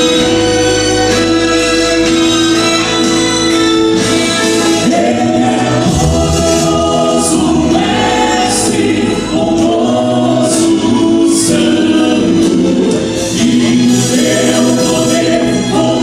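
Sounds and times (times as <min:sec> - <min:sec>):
vocal quartet singing gospel: 0:00.0 - 0:16.0.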